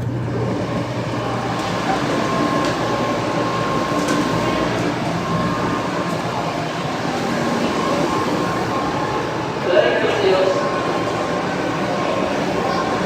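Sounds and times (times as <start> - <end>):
train rush and hum: 0.0 - 13.0.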